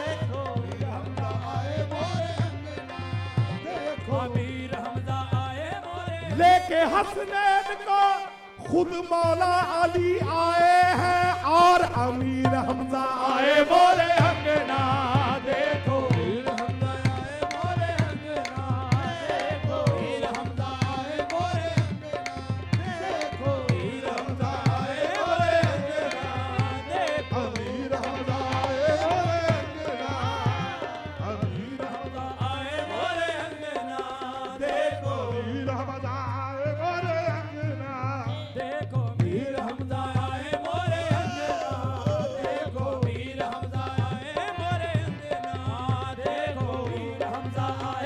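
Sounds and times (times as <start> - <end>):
harmonium melody: 0.0 - 48.0
people singing: 0.0 - 48.0
tabla rhythm: 0.0 - 48.0.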